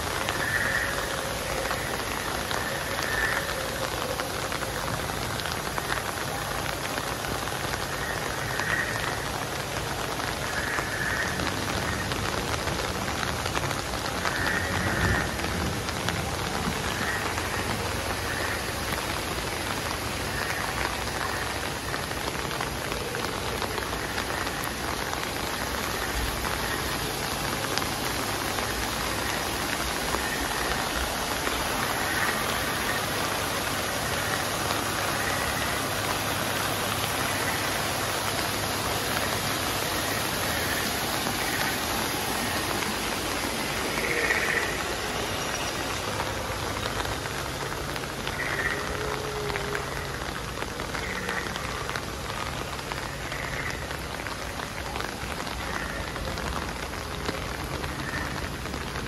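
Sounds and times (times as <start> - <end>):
light drizzle: 0.0 - 59.0
water running over rocks: 0.0 - 59.0.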